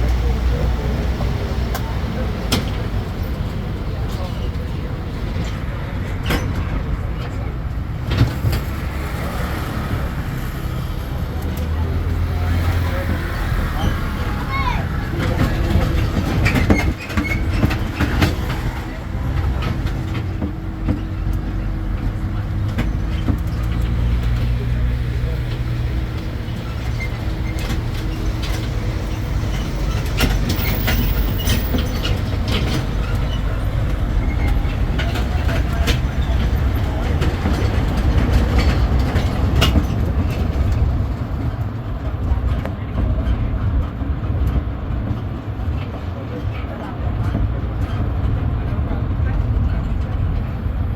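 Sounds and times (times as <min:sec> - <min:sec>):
carriages knocking and rattling: 0:00.0 - 0:50.9
road train engine rumble: 0:00.0 - 0:50.9.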